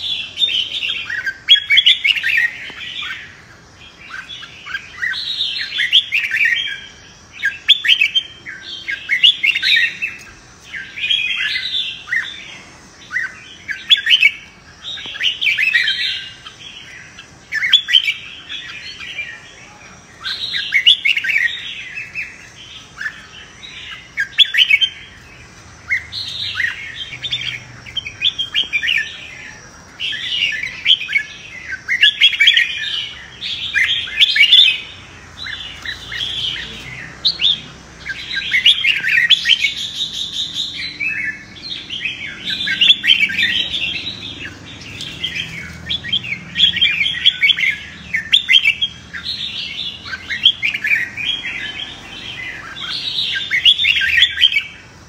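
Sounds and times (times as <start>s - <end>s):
bird whistled song: 0.0s - 54.9s.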